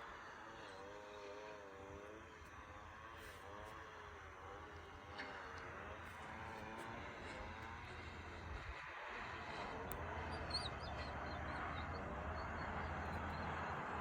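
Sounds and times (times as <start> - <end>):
car driving with road noise: 0.0 - 14.0.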